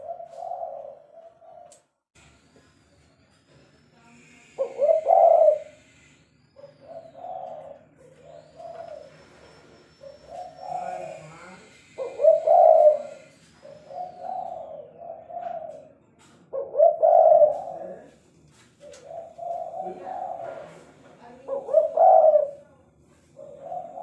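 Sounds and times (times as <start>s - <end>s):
dove cooing: 0.0s - 1.9s, 4.5s - 18.2s, 18.8s - 24.0s.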